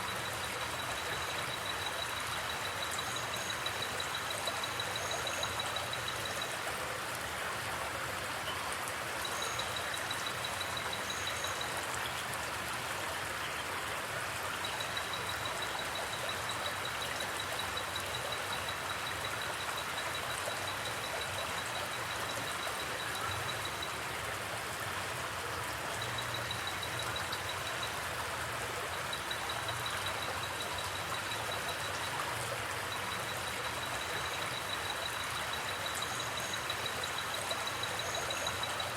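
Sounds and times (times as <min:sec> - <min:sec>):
flowing creek: 0:00.0 - 0:38.9.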